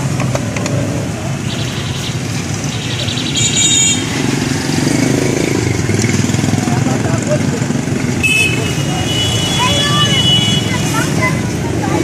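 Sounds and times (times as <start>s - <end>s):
motorcycle engines rumbling: 0.0s - 12.0s
street traffic: 0.0s - 12.0s.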